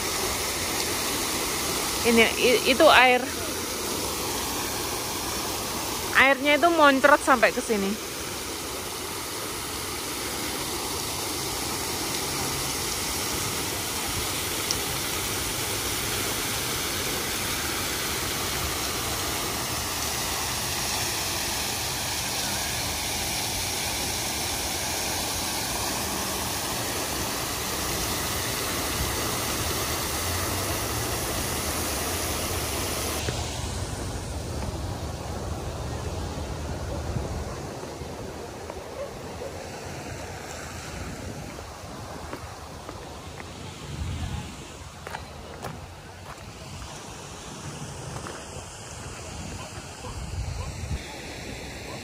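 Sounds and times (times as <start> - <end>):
water jet splashing: 0.0 - 52.0.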